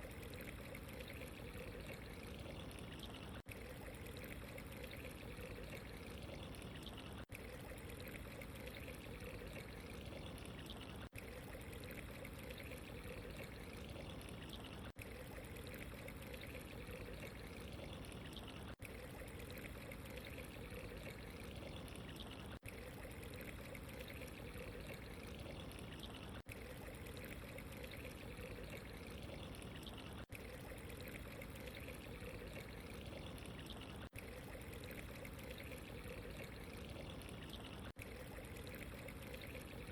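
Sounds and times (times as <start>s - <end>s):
water trickling and pouring: 0.0s - 39.9s.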